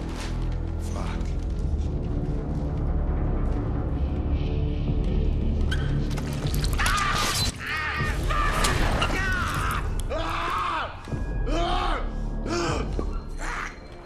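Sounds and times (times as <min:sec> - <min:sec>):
low dark film score drone: 0:00.0 - 0:14.0.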